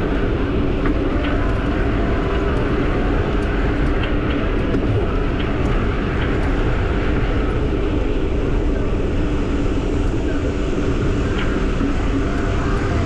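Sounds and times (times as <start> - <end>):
wind rush: 0.0 - 13.0.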